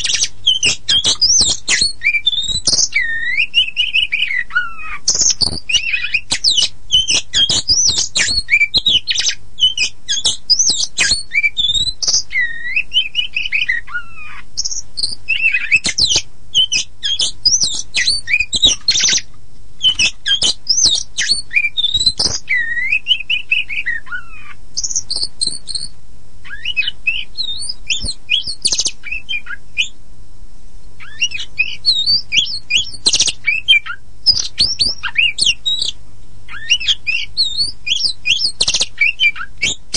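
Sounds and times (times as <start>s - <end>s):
magpie-robin singing: 0.0s - 30.0s, 31.0s - 39.9s.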